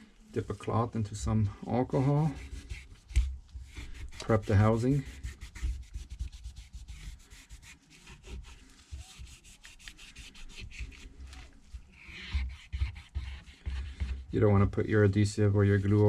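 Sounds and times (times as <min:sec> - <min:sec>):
cloth wiping phone housing: 0:00.3 - 0:14.4, 0:15.0 - 0:16.0.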